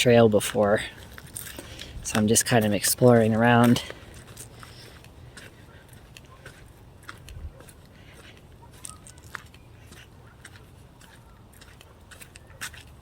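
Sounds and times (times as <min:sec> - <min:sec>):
footsteps crunching on dirt: 0:00.1 - 0:13.0.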